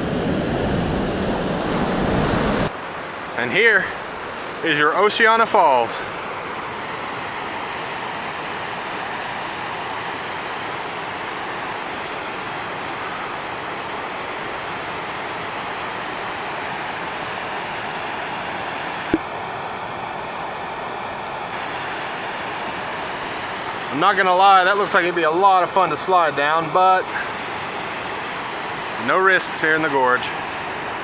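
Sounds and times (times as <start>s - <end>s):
waterfall roaring: 1.7s - 31.0s.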